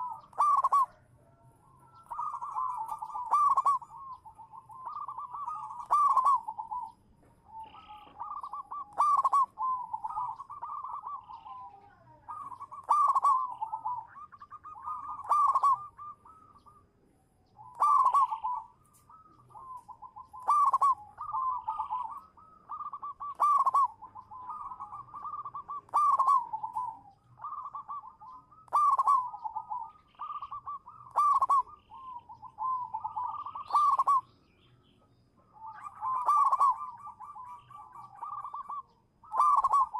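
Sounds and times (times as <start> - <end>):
dove trilled cooing: 0.0 - 39.9.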